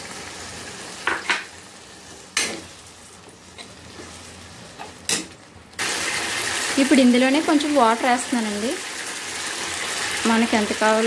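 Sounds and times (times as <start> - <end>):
masala sizzling in pan: 0.0 - 11.0.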